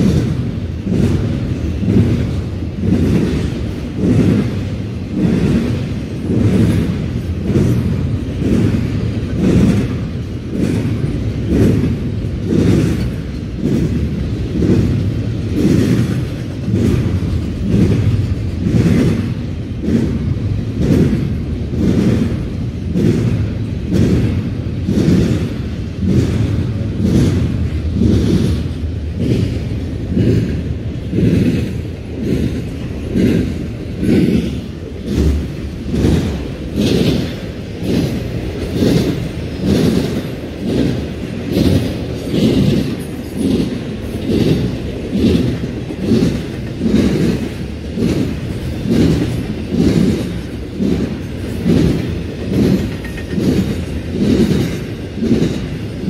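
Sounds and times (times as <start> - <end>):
freight train rumbling past: 0.0 - 56.0
wheels clattering over rails: 0.0 - 56.0.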